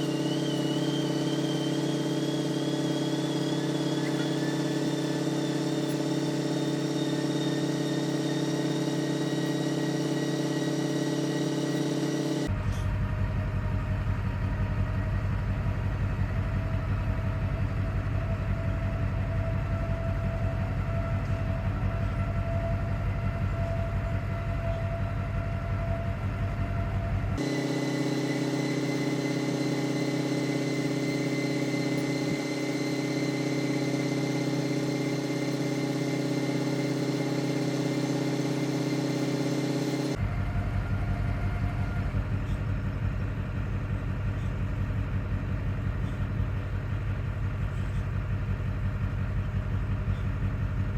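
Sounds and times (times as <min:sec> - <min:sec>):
motor humming: 0:00.0 - 0:50.9.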